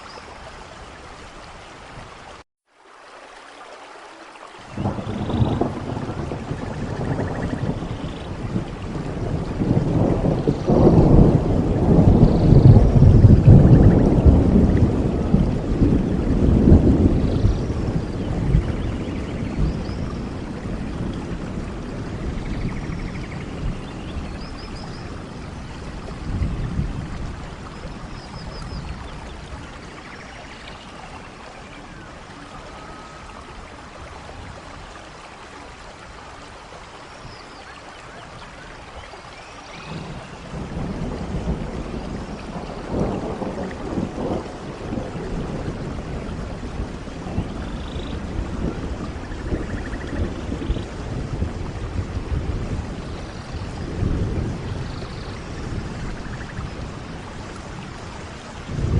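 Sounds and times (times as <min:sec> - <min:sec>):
steady rain hissing: 0:00.0 - 0:58.9
thunder rumbling: 0:04.7 - 0:35.0, 0:39.7 - 0:58.9.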